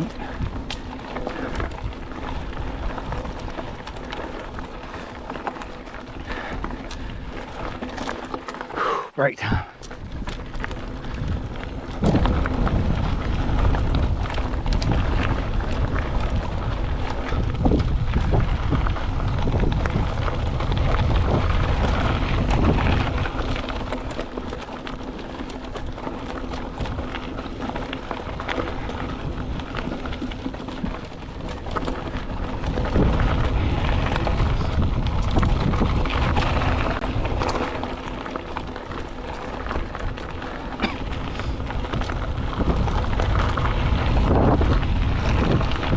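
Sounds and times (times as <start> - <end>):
wind rumble on microphone: 0.0 - 8.2, 9.4 - 45.9
bike tyre noise: 0.0 - 45.9.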